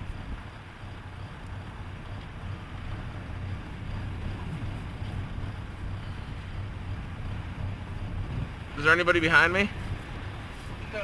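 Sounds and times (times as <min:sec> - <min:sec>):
blizzard wind: 0:00.0 - 0:11.0
vehicle engine and road noise: 0:00.0 - 0:11.0.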